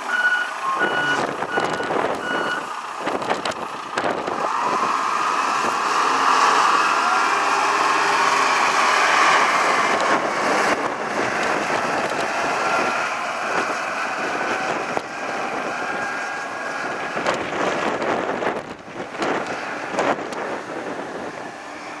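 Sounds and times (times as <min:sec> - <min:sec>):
diesel engine running: 0:00.0 - 0:22.0
engine whine: 0:00.0 - 0:22.0
wind buffeting microphone: 0:00.8 - 0:07.0, 0:08.6 - 0:22.0.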